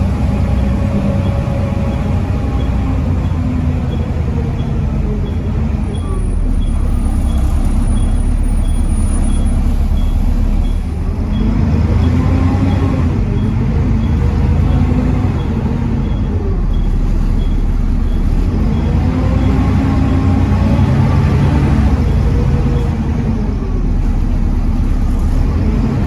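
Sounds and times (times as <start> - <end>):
diesel bus engine under load: 0.0 - 26.0.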